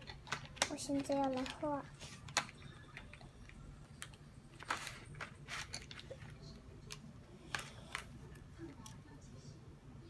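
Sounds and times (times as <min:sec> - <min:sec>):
pencils clicking: 0:00.0 - 0:08.1.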